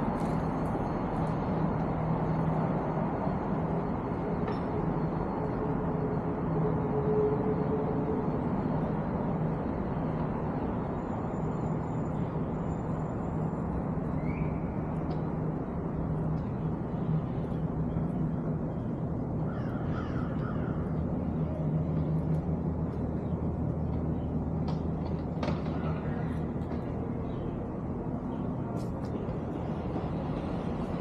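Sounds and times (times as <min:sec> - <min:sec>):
city background hum: 0:00.0 - 0:31.0.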